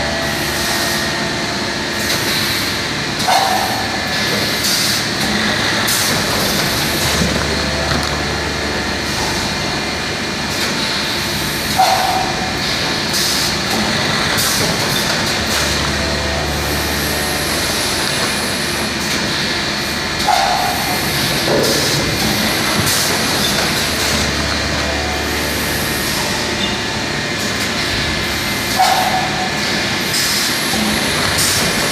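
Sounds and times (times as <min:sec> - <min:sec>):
deep machine hum: 0:00.0 - 0:31.9
packaging machine running: 0:00.0 - 0:31.9.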